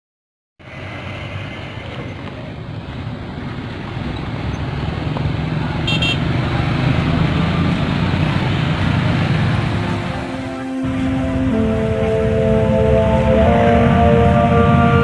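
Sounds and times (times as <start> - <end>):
road traffic: 0.6 - 15.0
vehicle engine humming: 0.6 - 15.0.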